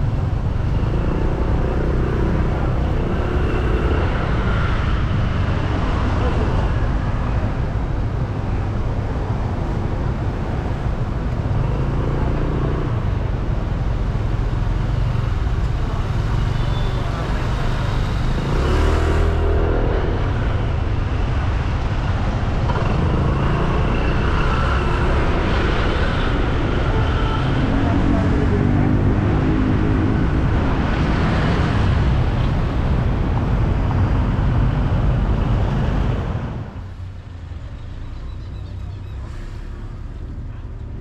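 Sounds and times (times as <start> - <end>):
engine and road noise: 0.0 - 41.0
vehicles passing: 0.0 - 41.0.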